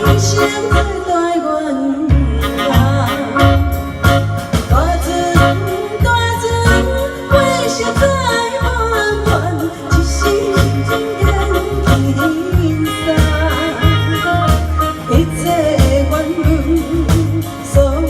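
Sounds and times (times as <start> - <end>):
pop song with bass beat: 0.0 - 18.0.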